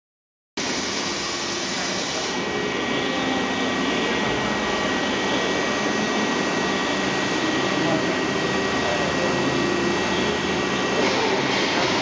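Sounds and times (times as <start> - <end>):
machine mechanism whirring and whining: 0.6 - 12.0.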